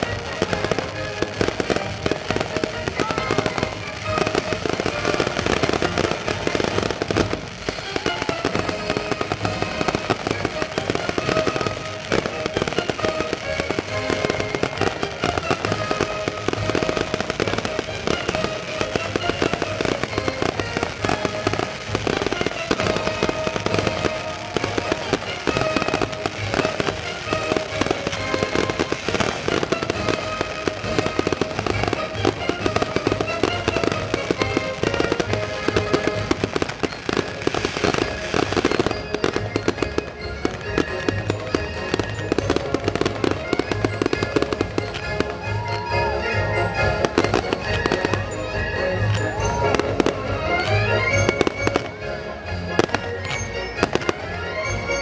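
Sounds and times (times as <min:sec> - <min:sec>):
fireworks bangs and crackles: 0:00.0 - 0:55.0
music playing: 0:00.0 - 0:55.0.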